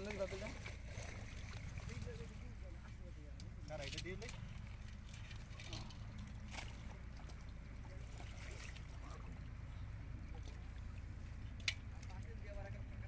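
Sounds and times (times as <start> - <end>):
muddy water sloshing: 0.0 - 13.0
steady low rumble: 0.2 - 13.0.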